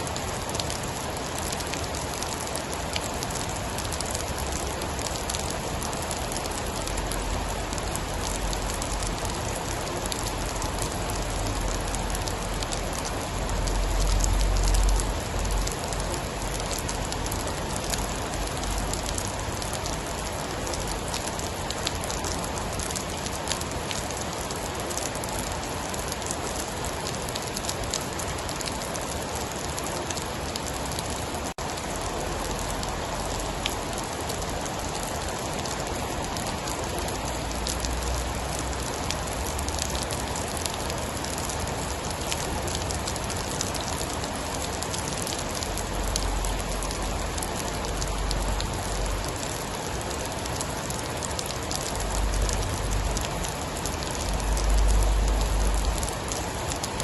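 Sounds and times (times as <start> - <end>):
heavy rain: 0.0 - 57.0
sharp raindrop ticks: 0.0 - 57.0.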